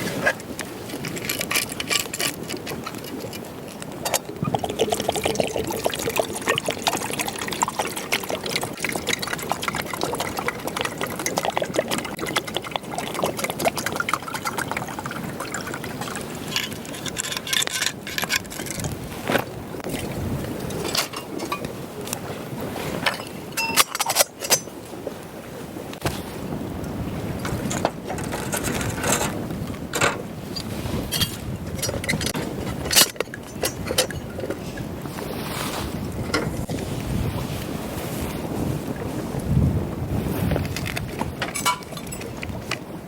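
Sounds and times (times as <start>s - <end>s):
water lapping and splashing: 0.0s - 43.0s.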